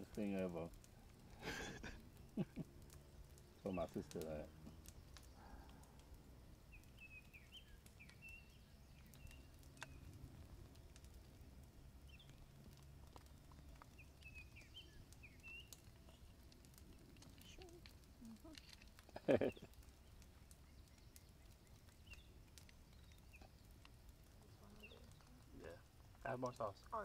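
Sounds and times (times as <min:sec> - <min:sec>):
faint bird chirps: 0:02.1 - 0:11.0, 0:12.0 - 0:12.5, 0:13.1 - 0:25.8.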